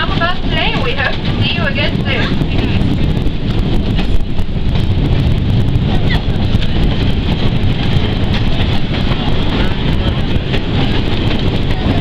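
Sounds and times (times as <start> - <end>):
moving train rumble: 0.0 - 12.0
wind noise on microphone: 0.0 - 12.0.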